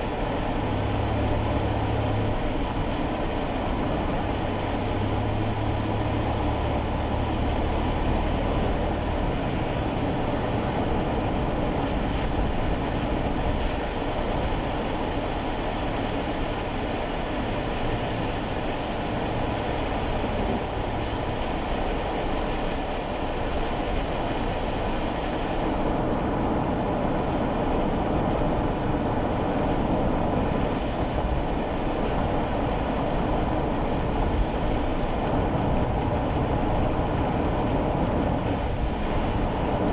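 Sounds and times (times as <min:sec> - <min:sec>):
low engine hum: 0:00.0 - 0:39.9
tyre noise on wet road: 0:00.0 - 0:39.9.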